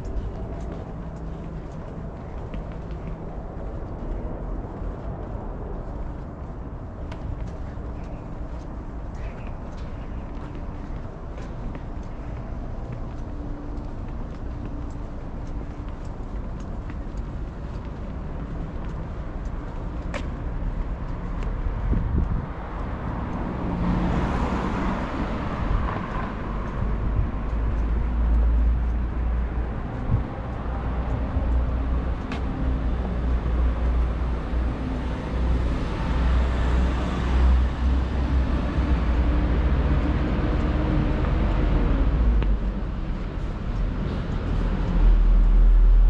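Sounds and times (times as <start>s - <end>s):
cars passing: 0.0s - 46.0s
steady low traffic rumble: 0.0s - 46.0s.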